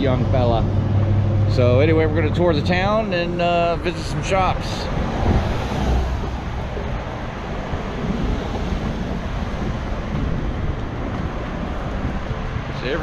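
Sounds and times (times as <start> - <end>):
light street traffic: 0.0 - 13.0
wind buffeting microphone: 0.0 - 13.0.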